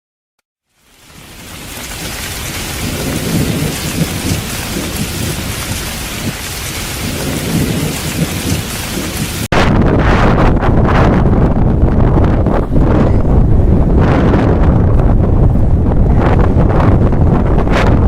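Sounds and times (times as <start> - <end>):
wind blowing over microphone: 0.8 - 18.0.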